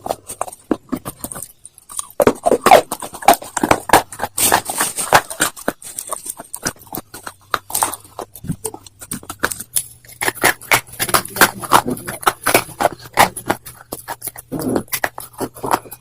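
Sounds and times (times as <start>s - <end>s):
crunching of brittle stone: 0.0s - 16.0s.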